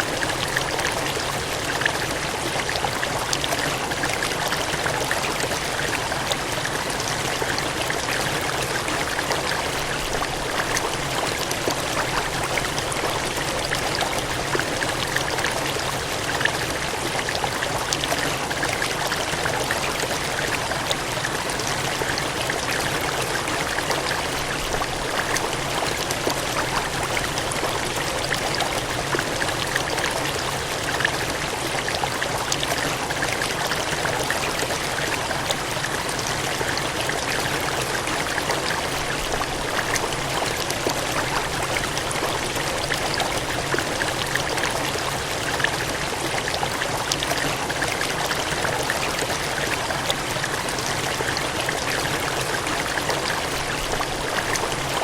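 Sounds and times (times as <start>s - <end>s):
gushing water: 0.0s - 55.0s.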